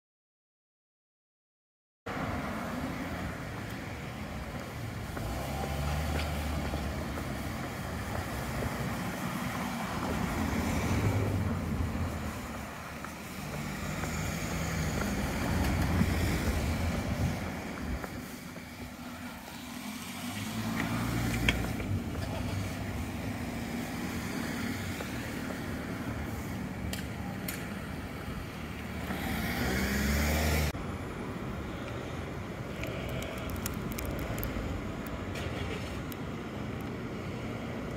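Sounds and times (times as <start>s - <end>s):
cars passing: 2.1s - 37.9s
outdoor background noise: 2.1s - 37.9s.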